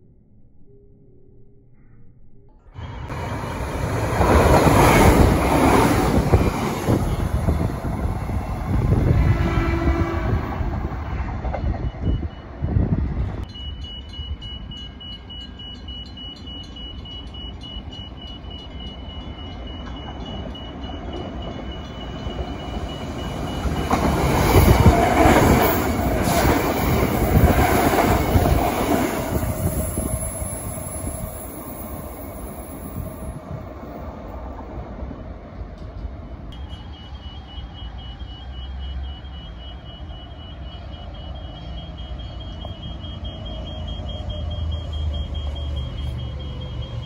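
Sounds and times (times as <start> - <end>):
electric train passing: 2.8 - 47.0.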